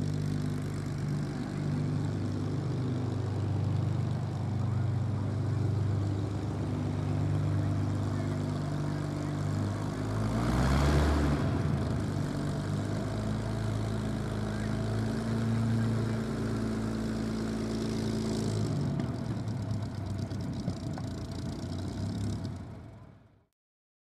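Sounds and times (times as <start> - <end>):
propeller engine idling: 0.0 - 10.4, 11.2 - 23.2.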